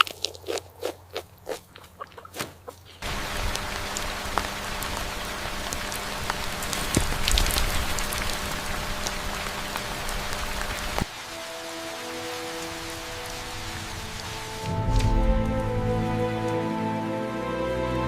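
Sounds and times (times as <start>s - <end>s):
steady rain falling: 3.0s - 18.0s.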